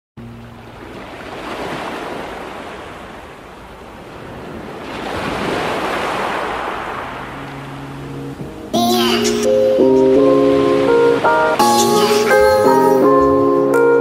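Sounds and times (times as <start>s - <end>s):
surf washing: 0.2s - 14.0s.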